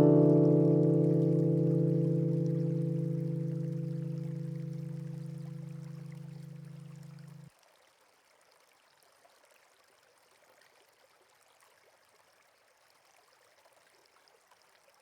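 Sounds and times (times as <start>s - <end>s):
faint flowing water: 0.0s - 15.0s.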